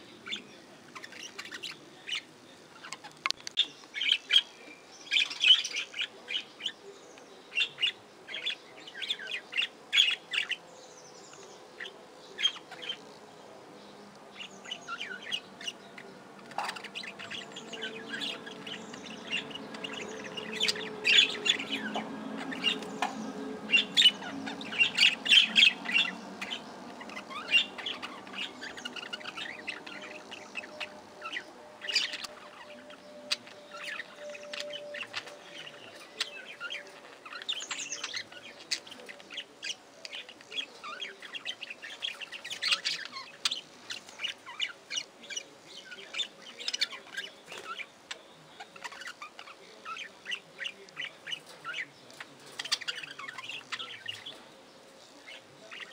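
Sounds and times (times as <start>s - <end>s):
budgerigars chattering and chirping: 0.2s - 6.8s, 7.5s - 10.6s, 11.2s - 13.2s, 13.8s - 55.9s.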